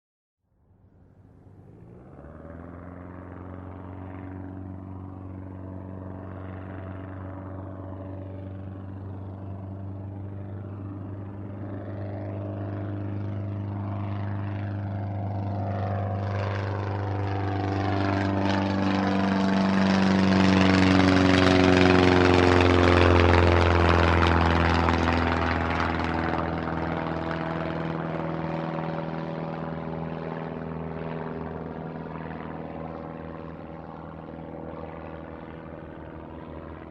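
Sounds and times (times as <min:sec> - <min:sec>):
propeller plane flying past: 0:00.5 - 0:36.9.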